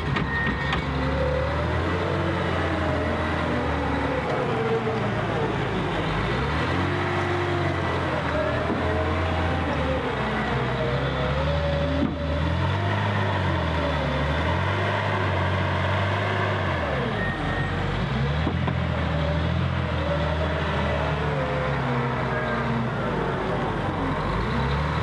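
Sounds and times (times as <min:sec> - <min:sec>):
wheel loader diesel engine: 0:00.0 - 0:25.0.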